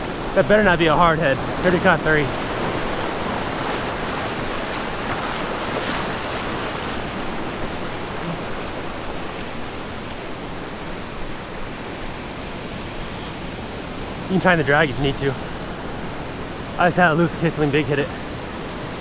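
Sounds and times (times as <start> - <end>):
surf washing over sand: 0.0 - 19.0.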